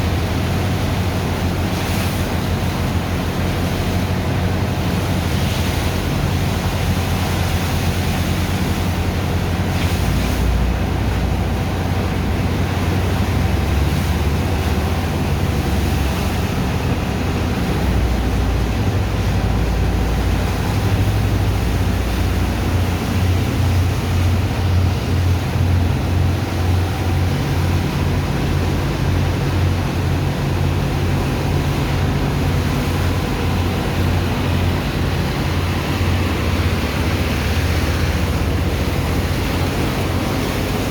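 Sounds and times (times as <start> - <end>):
pump engine running: 0.0 - 40.9
water rushing: 0.0 - 40.9.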